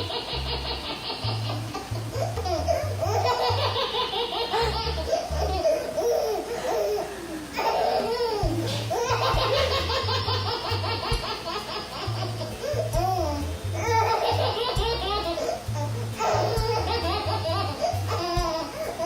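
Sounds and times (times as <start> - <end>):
background music with bass: 0.0 - 6.1, 8.2 - 19.0
baby laughing: 0.0 - 19.0.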